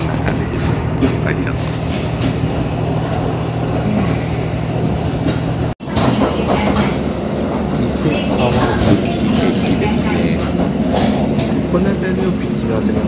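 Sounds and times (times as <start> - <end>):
diesel railcar engine droning: 0.0 - 13.0
wheel-on-rail rumble: 0.0 - 13.0.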